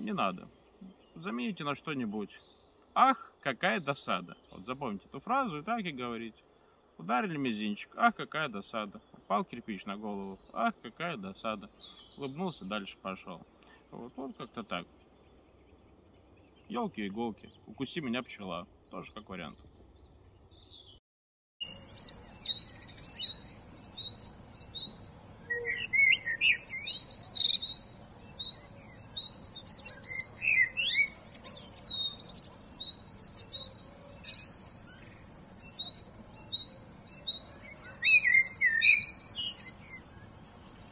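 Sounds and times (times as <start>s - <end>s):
songbirds singing and chirping: 0.0s - 21.0s, 21.6s - 40.9s.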